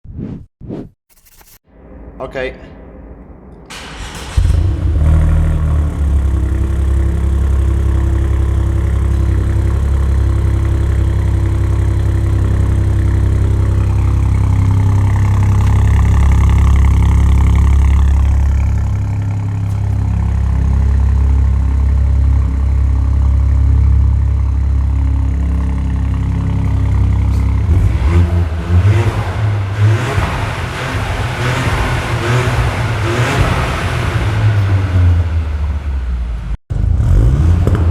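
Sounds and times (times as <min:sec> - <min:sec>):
car engine running: 0:03.6 - 0:37.9.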